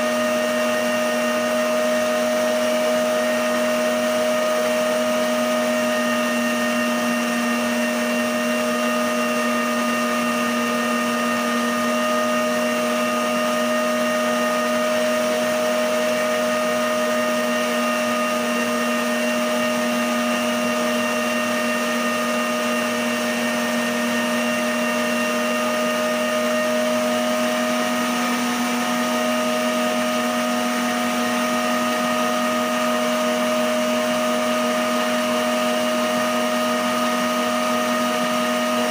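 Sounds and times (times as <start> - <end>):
stand mixer motor whine: 0.0 - 38.9.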